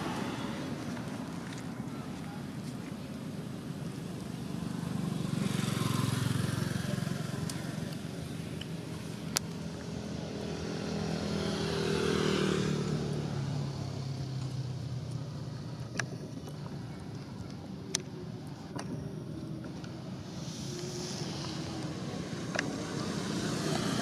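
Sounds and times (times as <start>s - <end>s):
motor vehicles passing: 0.0s - 24.0s.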